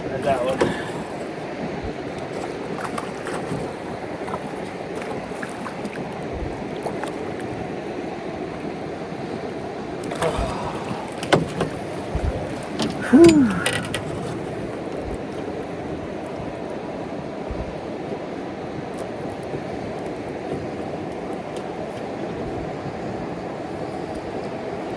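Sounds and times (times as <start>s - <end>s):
river water washing: 0.0s - 24.9s
wind buffeting microphone: 0.0s - 24.9s.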